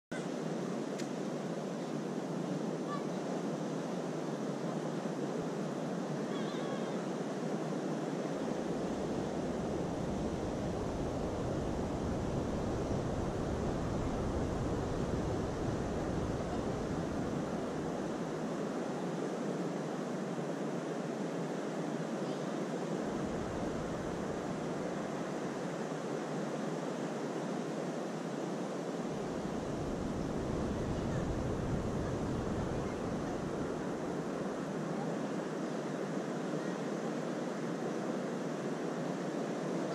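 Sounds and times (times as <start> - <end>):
low wind rumble on microphone: 2.0 - 26.2, 26.9 - 35.6
ocean surf breaking on beach: 4.5 - 39.9.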